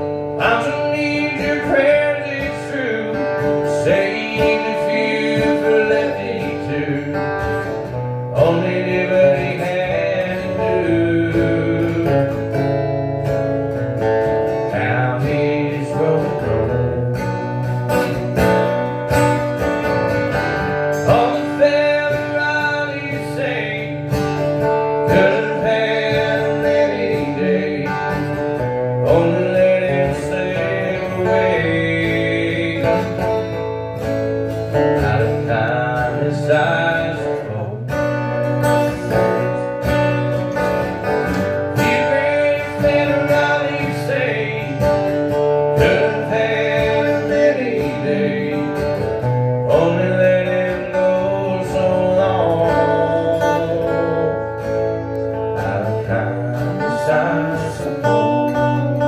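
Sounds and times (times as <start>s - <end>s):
acoustic guitars playing country: 0.0s - 59.0s.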